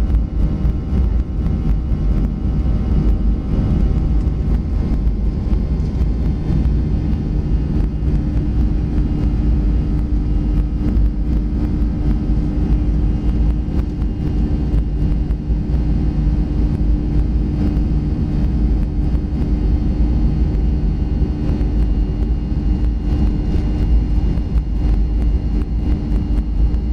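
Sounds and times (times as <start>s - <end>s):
jet engine rumble in cabin: 0.0s - 26.9s
steady hum: 0.0s - 26.9s.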